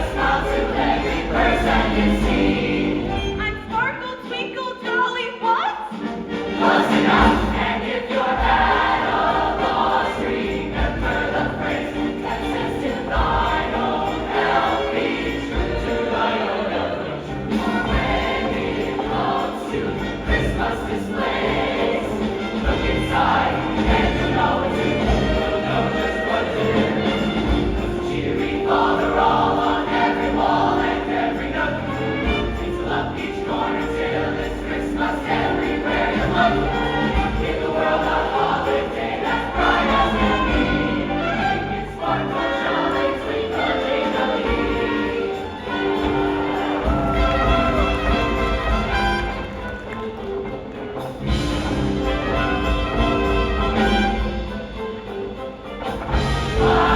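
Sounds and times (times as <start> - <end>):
choir singing: 0.0 - 56.9
instrumental accompaniment: 0.0 - 56.9.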